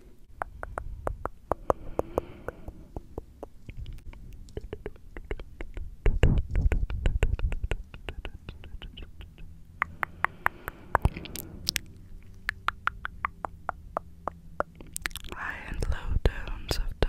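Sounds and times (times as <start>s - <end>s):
tongue clicking: 0.4s - 15.4s.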